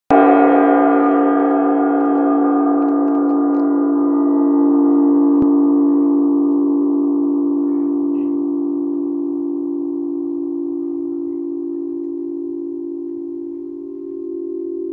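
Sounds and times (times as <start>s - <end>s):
gong ringing: 0.1s - 14.9s.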